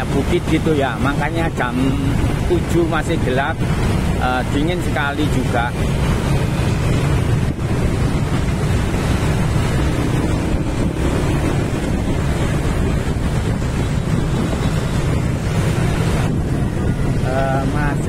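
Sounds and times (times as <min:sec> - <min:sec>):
motor scooters running: 0:00.0 - 0:18.0
wind buffeting microphone: 0:00.0 - 0:18.0.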